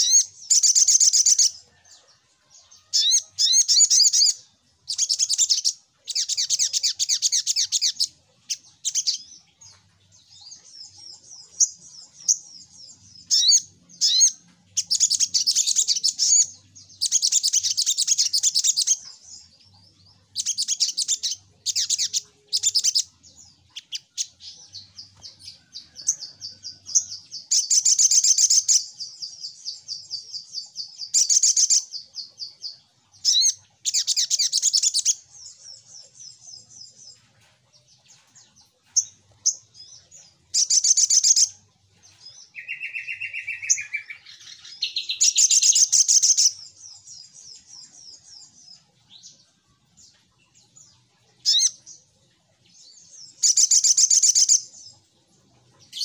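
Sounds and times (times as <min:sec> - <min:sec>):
sunbird twittering song: 0:00.0 - 0:56.0.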